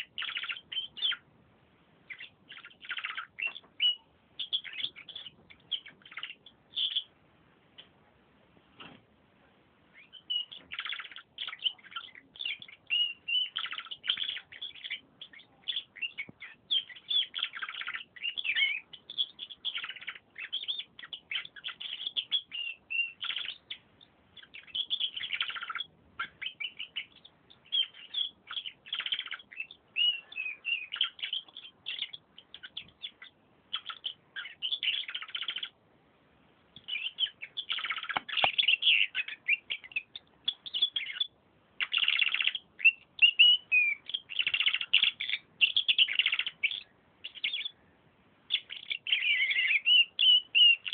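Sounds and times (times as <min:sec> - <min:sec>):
canary trilling: 0:00.0 - 0:01.4, 0:02.0 - 0:07.2, 0:09.9 - 0:35.8, 0:36.8 - 0:47.8, 0:48.5 - 0:50.9.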